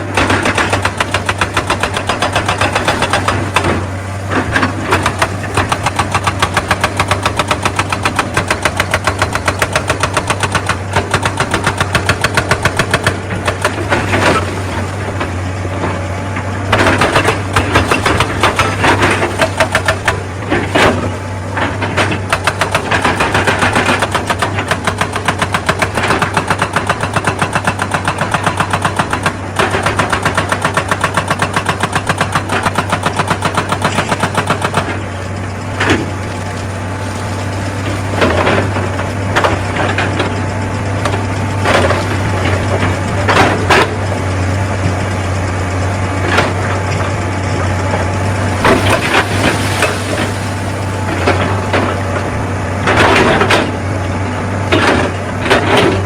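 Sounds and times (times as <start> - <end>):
diesel engine hum: 0.0 - 56.0
hydraulic rock breaker hammering stone: 0.0 - 56.0.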